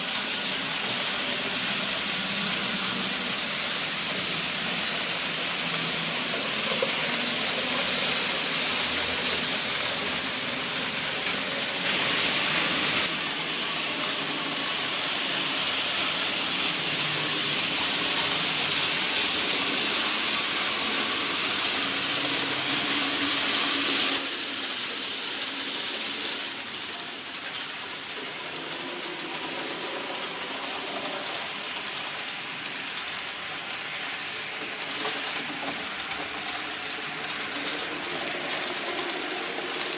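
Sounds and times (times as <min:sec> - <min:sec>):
model trains whirring on rails: 0:00.0 - 0:39.9.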